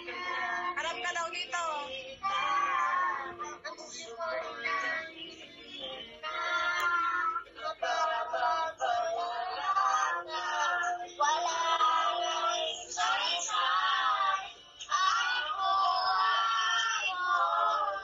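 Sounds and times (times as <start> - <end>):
boy singing through phone speaker: 0.0 - 18.0.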